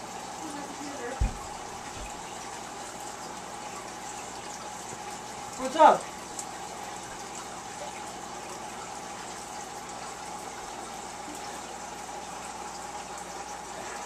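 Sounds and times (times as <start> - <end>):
aquarium filter water rushing: 0.0 - 14.0.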